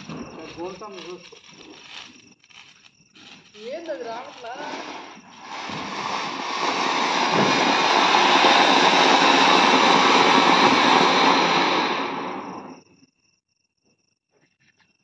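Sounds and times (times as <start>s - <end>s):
firework fountain hissing: 0.0s - 12.8s.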